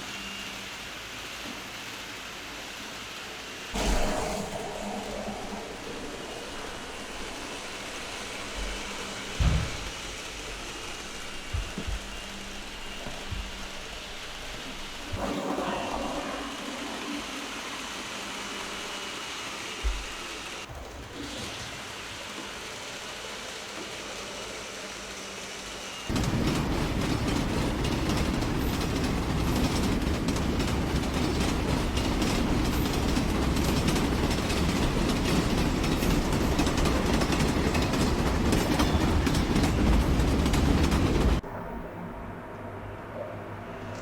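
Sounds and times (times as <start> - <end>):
train running on rails: 0.0 - 44.0.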